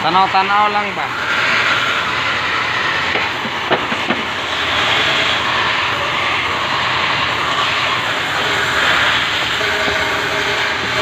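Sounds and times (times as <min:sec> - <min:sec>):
workshop machinery drone: 0:00.0 - 0:11.0.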